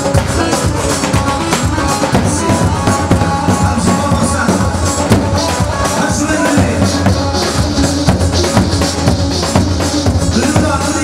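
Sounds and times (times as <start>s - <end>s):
live band dance music: 0.0s - 11.0s
steady drum beat: 0.0s - 11.0s.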